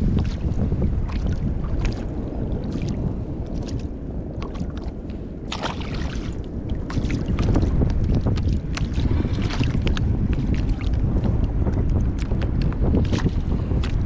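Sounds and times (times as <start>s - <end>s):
waves lapping against hull: 0.0s - 14.0s
wind buffeting microphone: 0.0s - 14.0s.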